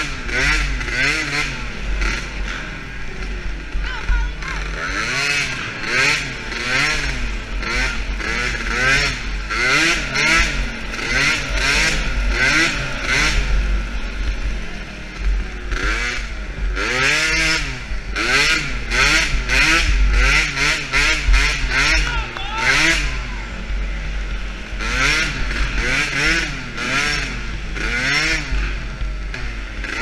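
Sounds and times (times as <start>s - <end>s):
small quad engine revving: 0.0s - 30.0s.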